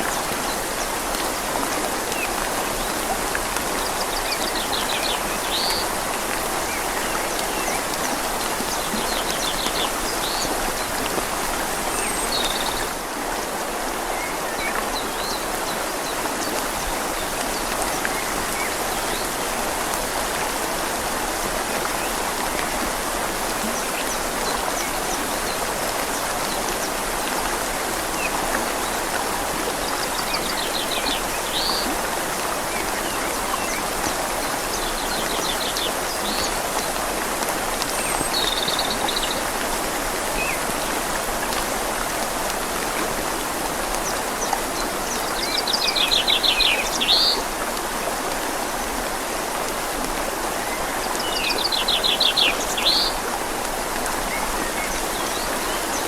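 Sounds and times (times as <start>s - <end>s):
rain falling on leaves: 0.0s - 56.0s
river flowing: 0.0s - 56.0s.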